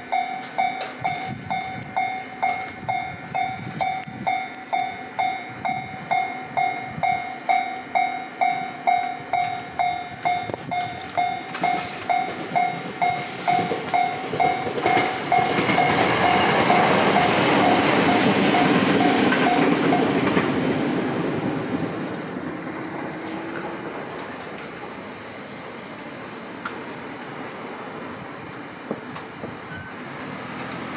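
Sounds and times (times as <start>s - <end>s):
level-crossing warning bell: 0.0s - 25.7s, 27.9s - 30.2s
train rumble and wheel clatter: 0.0s - 30.9s.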